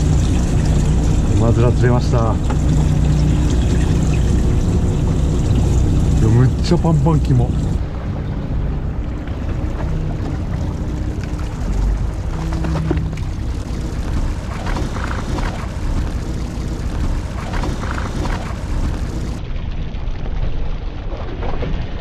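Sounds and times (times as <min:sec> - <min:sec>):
boat engine idling: 0:00.0 - 0:19.4
sea noise: 0:00.0 - 0:22.0
wind: 0:00.0 - 0:22.0.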